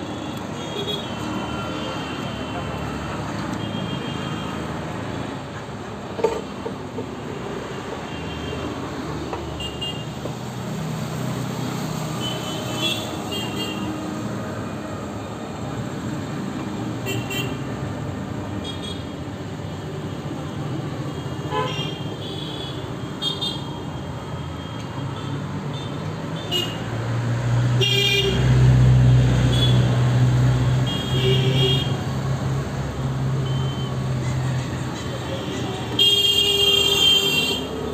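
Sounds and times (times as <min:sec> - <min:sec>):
street traffic: 0:00.0 - 0:37.9.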